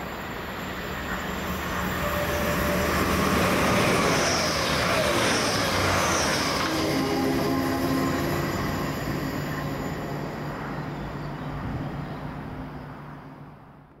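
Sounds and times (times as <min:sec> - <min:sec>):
train running hum: 0:00.0 - 0:14.0.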